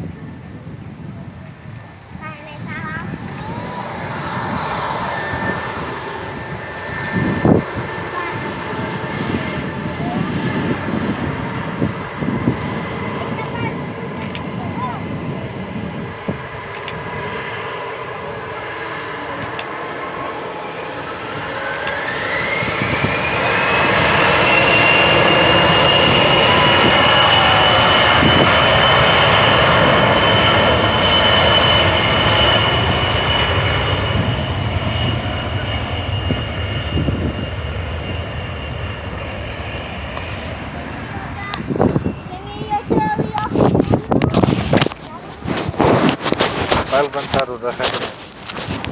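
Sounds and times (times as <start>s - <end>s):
jet engines spooling up: 1.6s - 48.9s.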